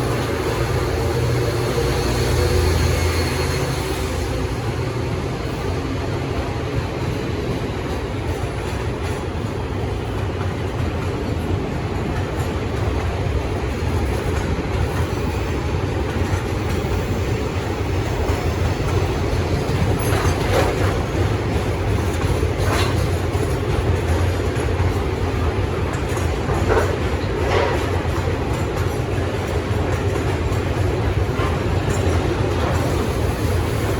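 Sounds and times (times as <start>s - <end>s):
freight train rumbling past: 0.0s - 33.9s
sharp train clanks: 0.0s - 33.9s.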